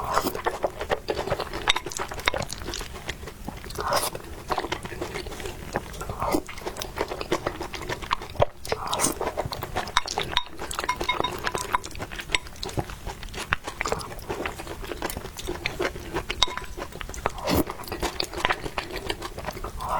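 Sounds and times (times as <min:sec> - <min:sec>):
chewing and crunching: 0:00.0 - 0:19.9.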